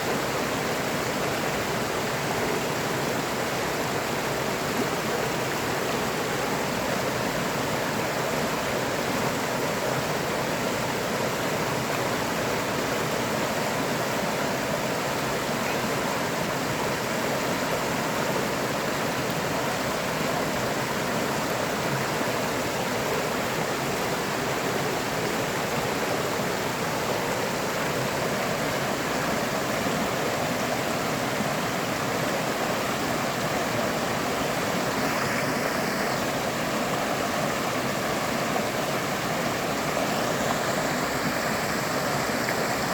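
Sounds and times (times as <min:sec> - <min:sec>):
river flowing: 0:00.0 - 0:42.9.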